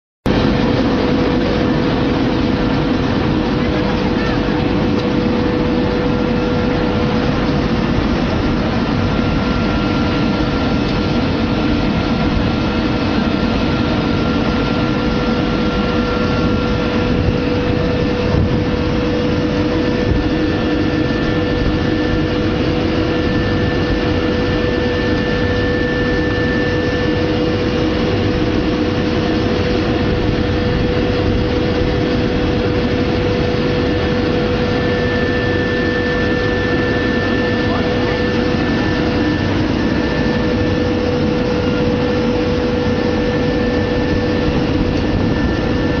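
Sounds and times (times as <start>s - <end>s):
churning water and air: 0.3s - 46.0s
machine hum with whine: 0.3s - 46.0s.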